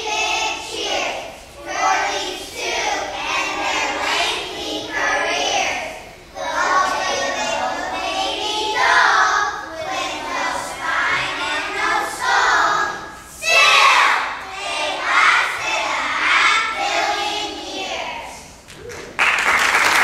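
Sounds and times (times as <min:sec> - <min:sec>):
children's choir singing: 0:00.0 - 0:18.7.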